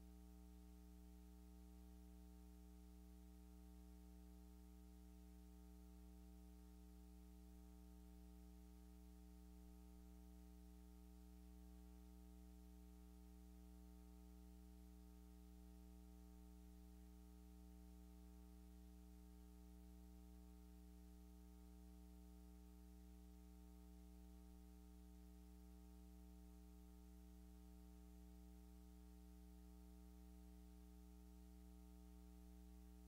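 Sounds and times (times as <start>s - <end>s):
faint electrical hum: 0.0s - 33.0s.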